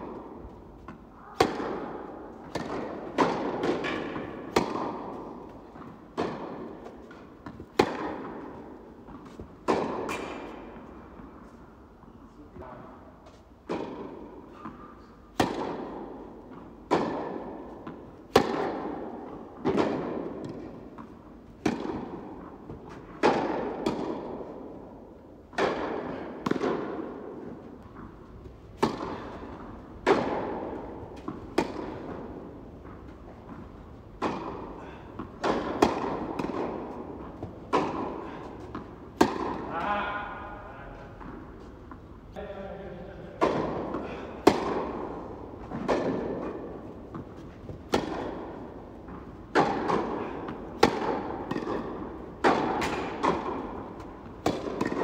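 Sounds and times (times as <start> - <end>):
tennis balls bouncing on court: 0.0 - 12.0, 12.6 - 42.5, 43.3 - 55.0
tennis balls struck by rackets: 0.0 - 12.0, 13.2 - 42.5, 43.3 - 55.0.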